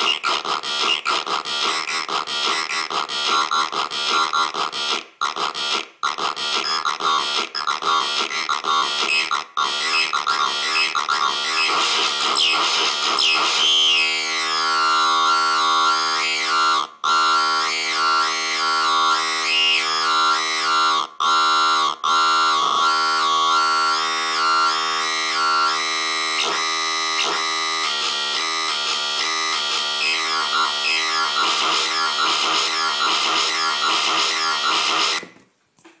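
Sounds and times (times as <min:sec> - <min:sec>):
buzzy electronic noise drones: 0:00.0 - 0:21.0, 0:22.8 - 0:35.2.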